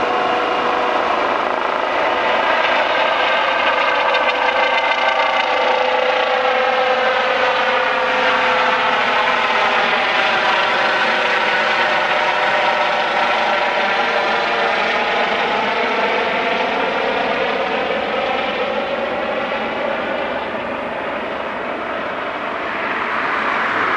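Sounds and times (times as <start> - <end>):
helicopter flying overhead: 0.0 - 23.9.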